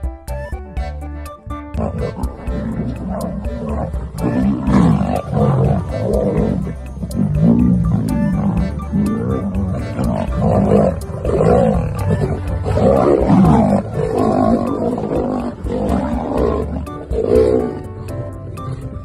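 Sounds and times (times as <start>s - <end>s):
background music with beat: 0.0s - 19.0s
lions snarling and growling: 1.8s - 19.0s.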